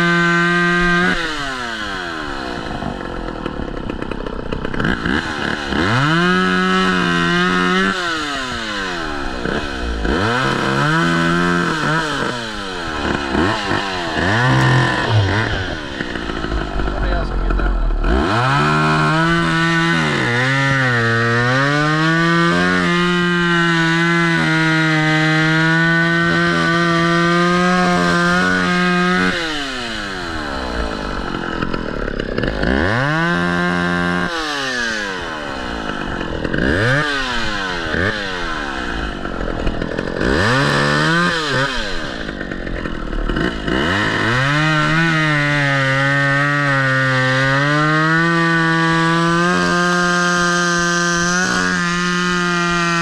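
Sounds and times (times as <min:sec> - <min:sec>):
chainsaw cutting and revving: 0:00.0 - 0:53.0.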